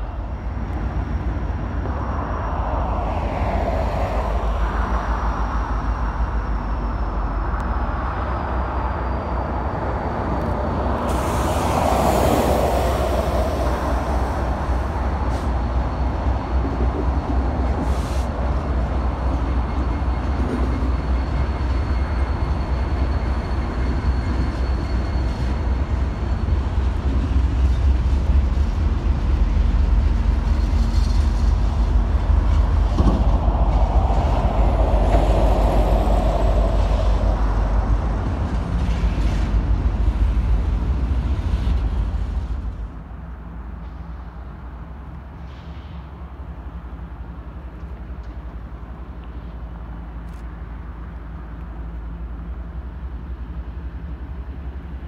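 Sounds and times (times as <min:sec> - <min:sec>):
diesel locomotives passing: 0:00.0 - 0:55.0
freight cars rolling on rails: 0:00.0 - 0:55.0.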